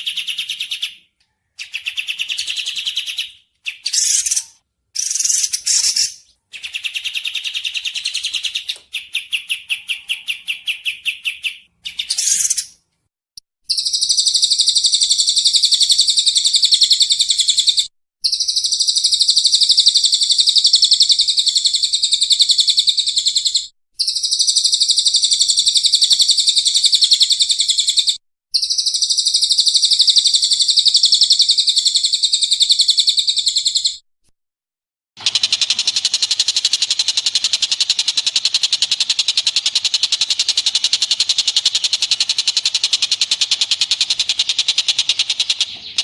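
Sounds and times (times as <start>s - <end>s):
rapid buzzy bird trill: 0.0s - 12.8s, 13.6s - 34.0s, 35.2s - 46.0s.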